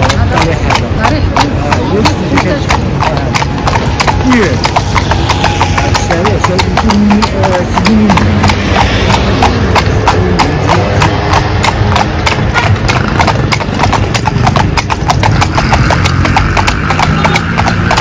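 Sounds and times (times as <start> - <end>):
horse hooves clip-clopping on road: 0.0 - 18.0.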